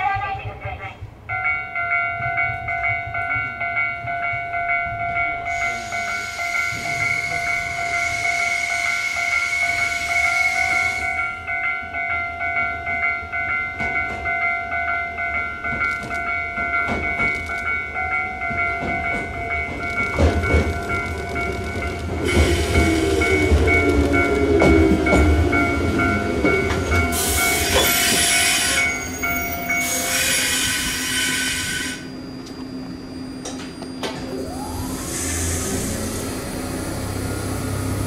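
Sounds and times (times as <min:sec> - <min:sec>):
train high whine: 0:01.2 - 0:38.0.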